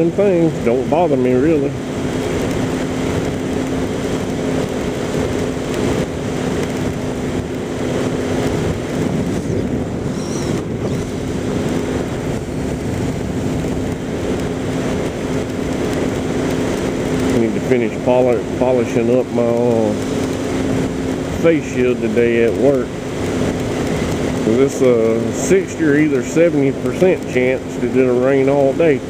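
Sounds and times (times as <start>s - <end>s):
motorcycle engine humming: 0.0s - 29.0s
wind and road noise: 0.0s - 29.0s.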